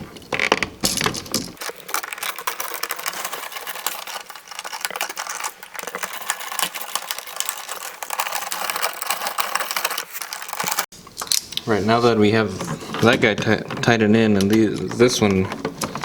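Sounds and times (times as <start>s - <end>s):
screwdriver clicking and scraping metal: 1.5s - 11.6s, 12.5s - 16.0s.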